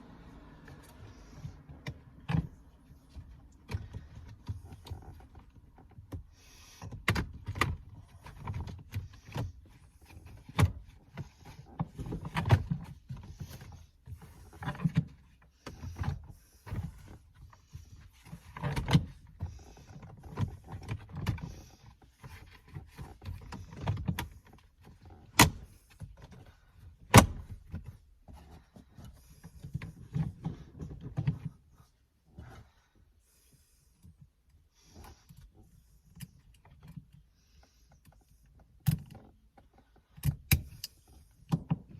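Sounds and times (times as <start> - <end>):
plastic and leather parts rubbing: 1.1 - 41.9.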